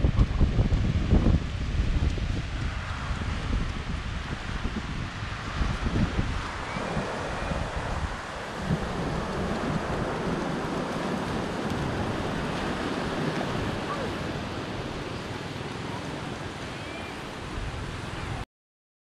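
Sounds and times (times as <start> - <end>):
steady rushing noise: 0.0 - 18.4.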